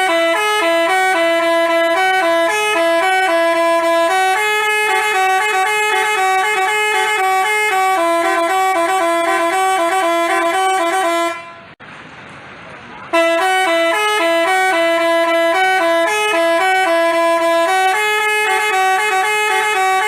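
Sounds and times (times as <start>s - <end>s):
musical bus horn tune: 0.0s - 11.8s, 13.1s - 20.0s.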